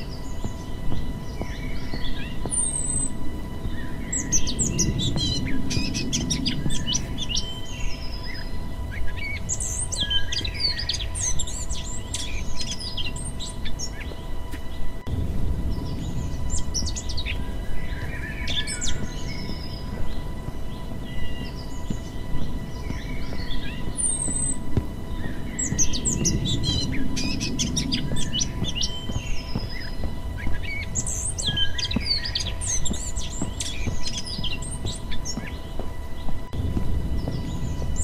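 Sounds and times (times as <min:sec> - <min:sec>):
birds chirping and singing: 0:00.0 - 0:38.0
faint constant tone: 0:00.0 - 0:38.0
low outdoor noise: 0:00.0 - 0:38.0.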